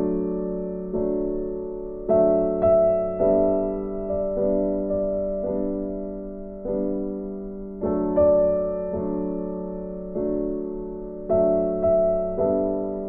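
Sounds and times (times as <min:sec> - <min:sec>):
gentle piano chords: 0:00.0 - 0:13.0.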